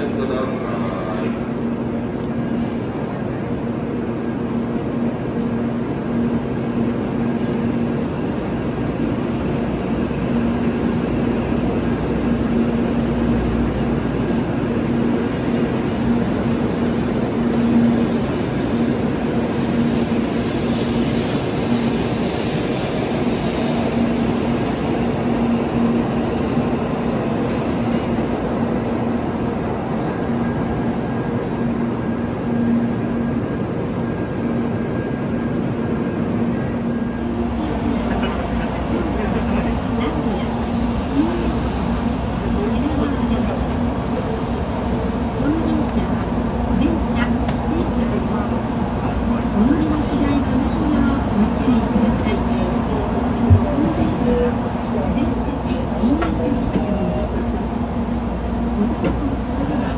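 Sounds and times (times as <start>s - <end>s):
train running gear hum: 0.0s - 59.9s
train rushing noise: 0.0s - 59.9s.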